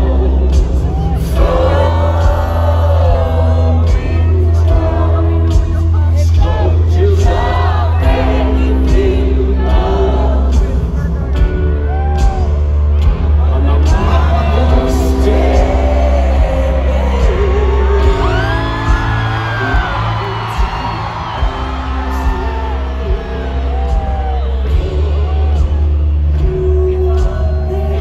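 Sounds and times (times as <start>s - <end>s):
singer singing into microphone: 0.0s - 12.3s, 13.0s - 28.0s
audience whooping and yelling: 0.0s - 28.0s
live rock band playing: 0.0s - 28.0s.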